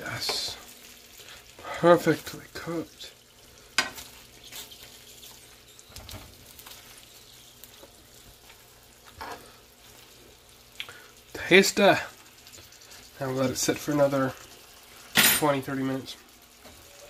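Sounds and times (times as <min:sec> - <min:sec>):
sausages sizzling in a frying pan: 0:00.0 - 0:17.0.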